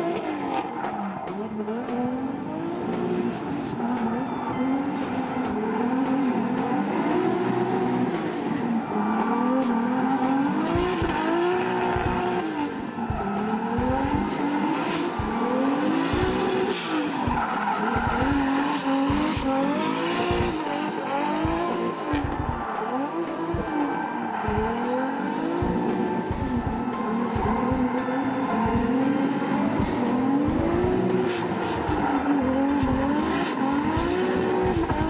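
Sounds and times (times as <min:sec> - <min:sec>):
car engine revving: 0:00.0 - 0:35.0
tyres squealing: 0:00.0 - 0:35.0.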